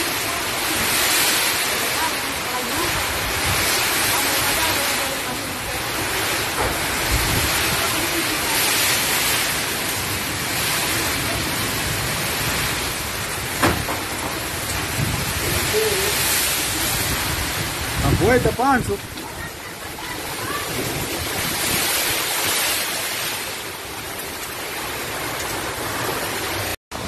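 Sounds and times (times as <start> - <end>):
heavy wind-driven rain: 0.0 - 27.0.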